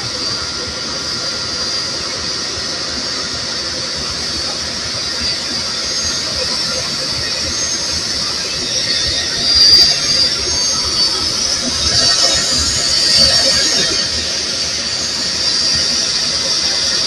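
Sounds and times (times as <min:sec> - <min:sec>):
jet engine whine: 0:00.0 - 0:17.0.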